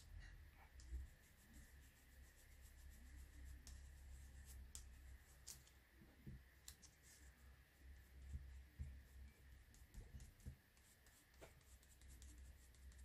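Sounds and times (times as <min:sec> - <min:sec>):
sponge dabbing on card: 0:00.7 - 0:13.0.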